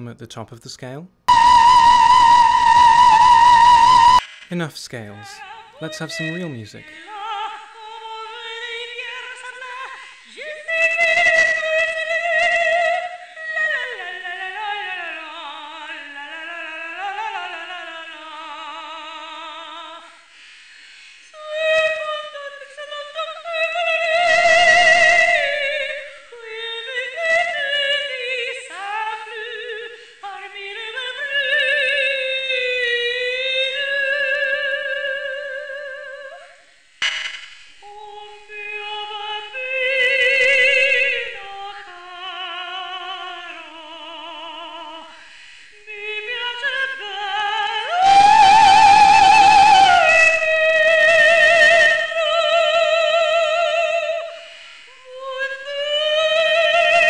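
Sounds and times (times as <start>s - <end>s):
soprano singing with vibrato: 1.3s - 20.3s, 21.2s - 36.7s, 37.8s - 57.0s.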